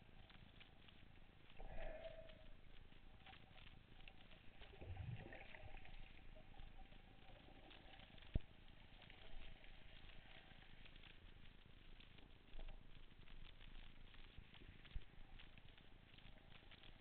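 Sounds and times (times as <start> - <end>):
crackling underwater hiss: 0.0 - 17.0
faint steady hum: 0.0 - 17.0.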